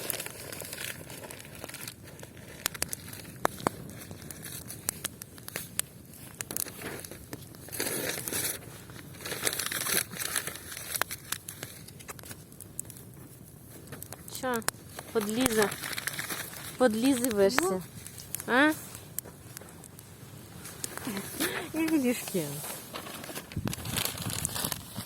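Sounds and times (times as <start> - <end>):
campfire crackling: 0.0 - 25.0
rustling noise: 0.0 - 25.0.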